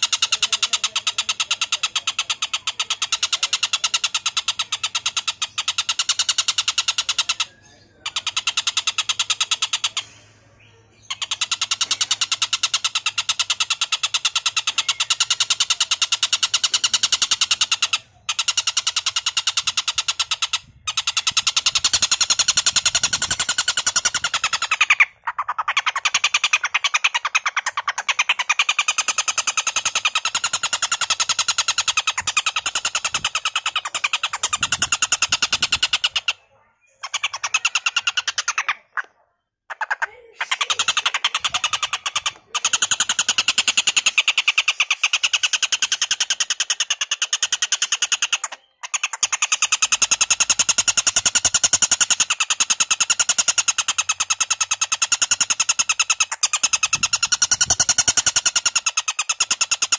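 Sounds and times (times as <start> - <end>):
bird harsh chattering call: 0.0 - 59.9.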